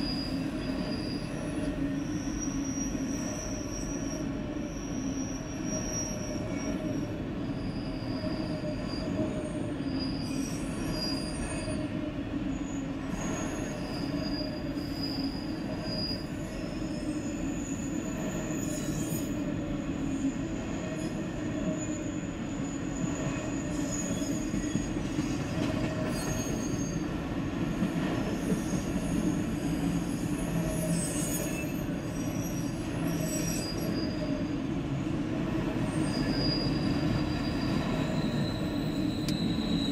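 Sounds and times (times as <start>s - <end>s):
high-pitched wheel squeals: 0.0s - 25.0s, 25.8s - 27.2s, 28.4s - 34.7s, 35.7s - 39.9s
train wheels rumbling on rail: 0.0s - 39.9s.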